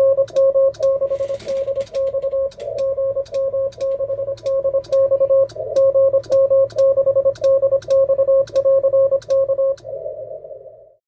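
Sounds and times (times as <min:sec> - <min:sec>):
morse code tone: 0:00.0 - 0:09.8.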